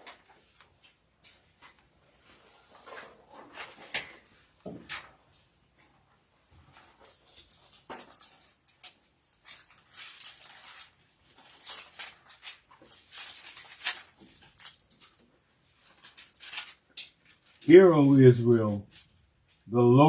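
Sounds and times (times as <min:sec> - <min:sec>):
book pages being turned: 0:00.0 - 0:05.8, 0:06.6 - 0:19.7.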